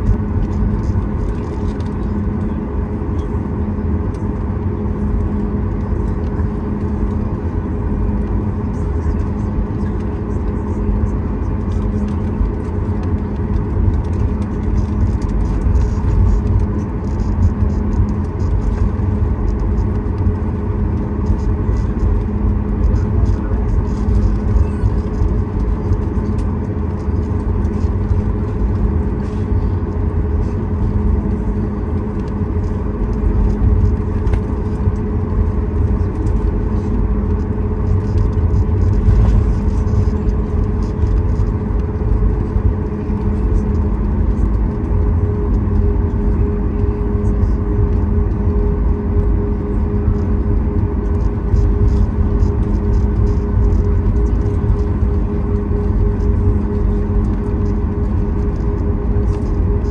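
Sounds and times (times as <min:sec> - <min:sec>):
aircraft engines low rumble: 0:00.0 - 0:59.9
steady cabin hum: 0:00.0 - 0:59.9.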